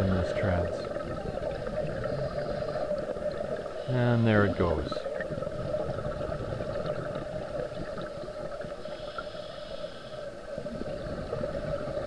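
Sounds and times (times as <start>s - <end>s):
underwater hum and low rumble: 0.0s - 12.0s.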